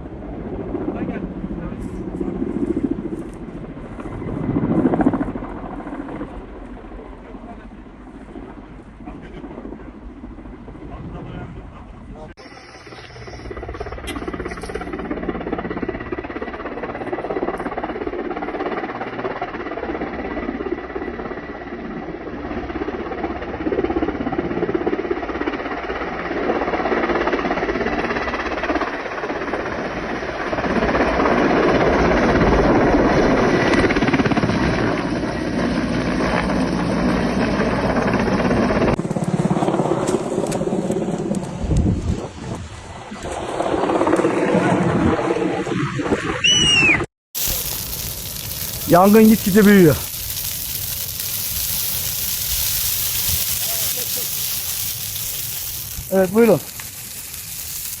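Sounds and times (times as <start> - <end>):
helicopter rotor and engine: 0.0 - 46.0, 48.1 - 50.1, 55.0 - 58.0.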